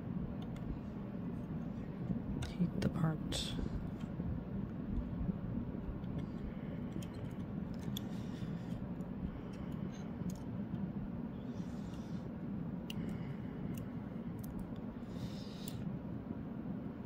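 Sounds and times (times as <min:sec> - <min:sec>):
electric fan blowing: 0:00.0 - 0:17.0.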